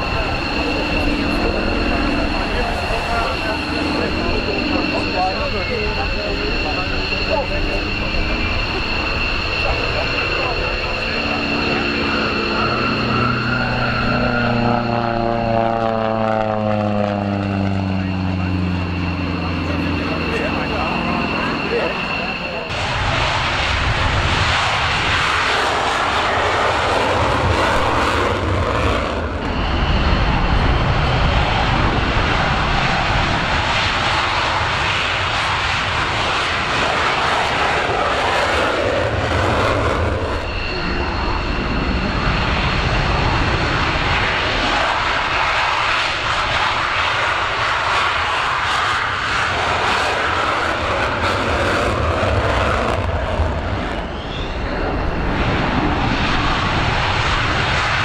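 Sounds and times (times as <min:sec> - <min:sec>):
faint high whine: 0:00.0 - 0:57.8
jet engine roaring: 0:00.0 - 0:58.0.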